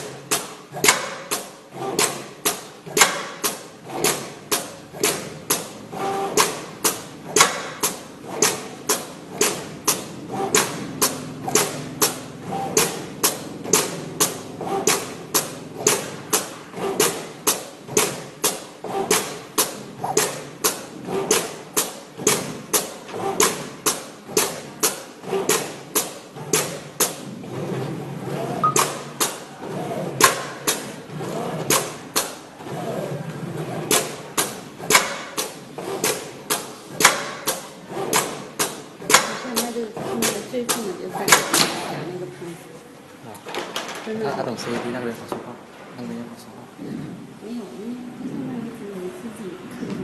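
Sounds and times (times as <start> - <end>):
cutting plotter tapping: 0.0 - 42.0
faint machine hum: 0.0 - 50.0.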